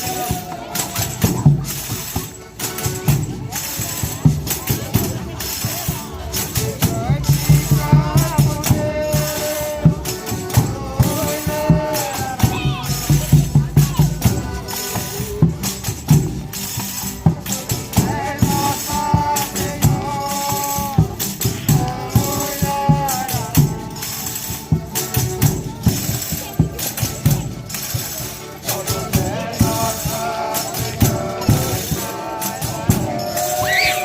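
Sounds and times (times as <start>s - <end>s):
tambourine and rattles beat: 0.0s - 34.0s.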